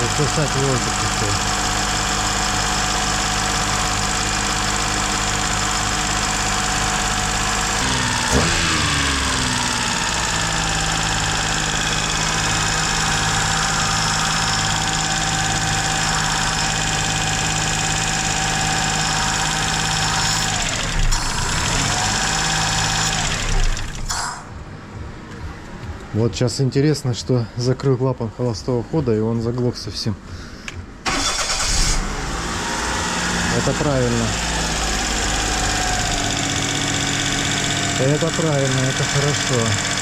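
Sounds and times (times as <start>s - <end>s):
car engine idling: 0.0s - 24.2s, 31.1s - 40.0s.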